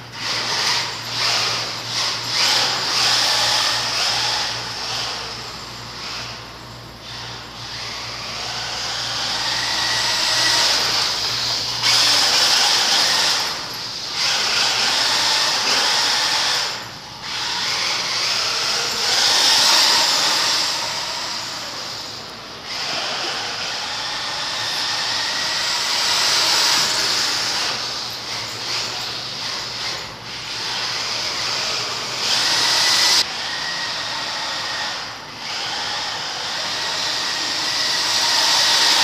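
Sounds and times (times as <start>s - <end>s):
radio-controlled car on concrete: 0.0s - 39.0s.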